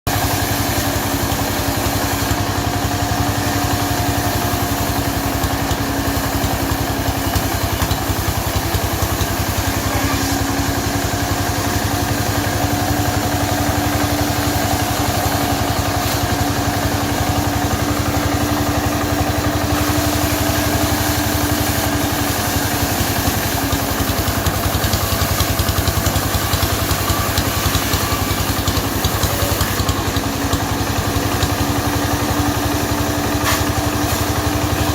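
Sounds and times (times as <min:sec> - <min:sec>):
chainsaw engine running: 0:00.1 - 0:34.9.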